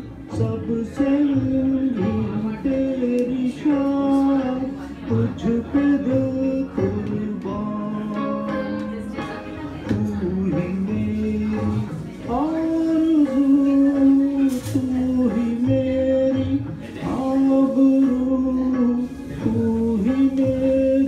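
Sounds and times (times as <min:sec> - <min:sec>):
backing track: 0:00.0 - 0:21.0
man singing long held notes: 0:00.3 - 0:21.0.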